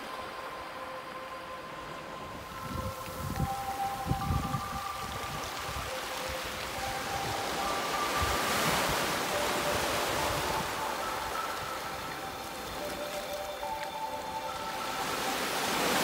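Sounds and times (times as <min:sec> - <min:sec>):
waves washing over pebbles: 0:02.4 - 0:16.0.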